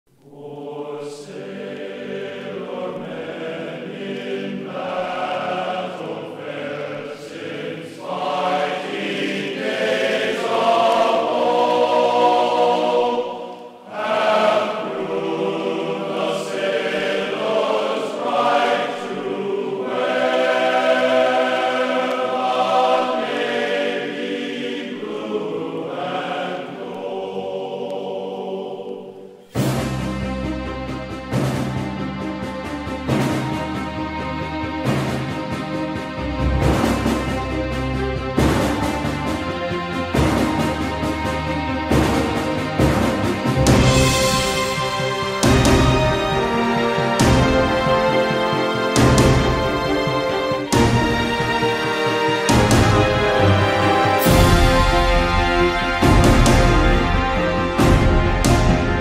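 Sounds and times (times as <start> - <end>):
sustained choir-like chords: 0.2 - 59.0.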